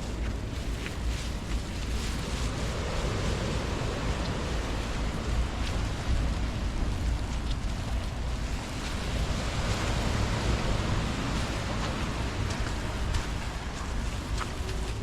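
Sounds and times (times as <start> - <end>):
wind buffeting microphone: 0.0 - 15.0
heavy rain falling: 0.1 - 15.0.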